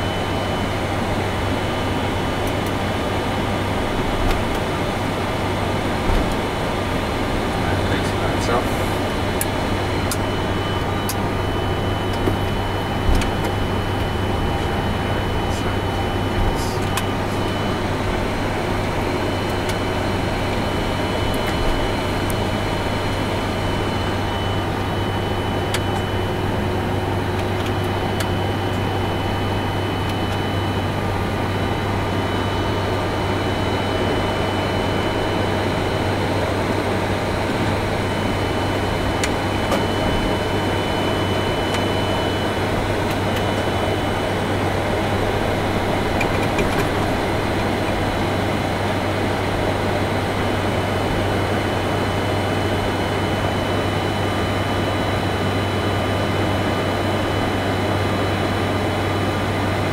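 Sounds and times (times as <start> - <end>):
low hum: 0.0 - 56.4
air-conditioning rush: 0.0 - 59.9
idling jet engines: 0.0 - 59.9.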